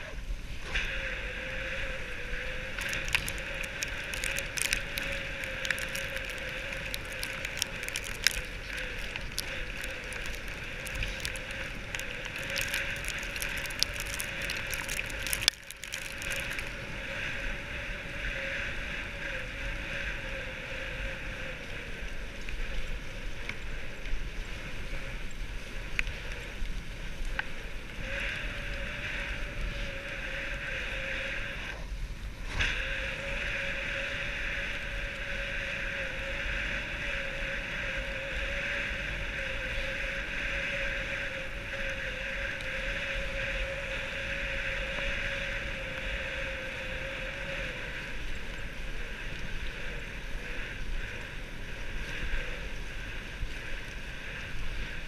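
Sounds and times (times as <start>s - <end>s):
sled runners sliding over snow: 1.6s - 55.0s.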